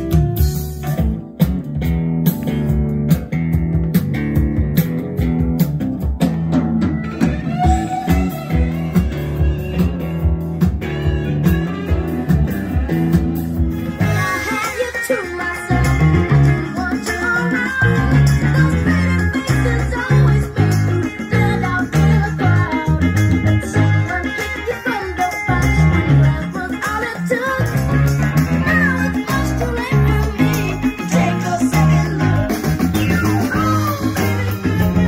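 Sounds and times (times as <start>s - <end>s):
guitar rock music through speakers: 0.0s - 35.0s.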